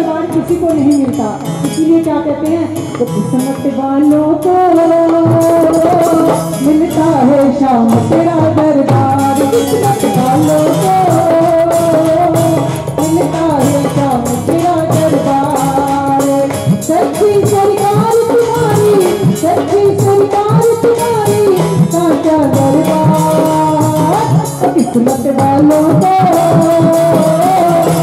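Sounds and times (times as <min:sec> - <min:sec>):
devotional music over speakers: 0:00.0 - 0:28.0
steady drum beat: 0:00.0 - 0:28.0.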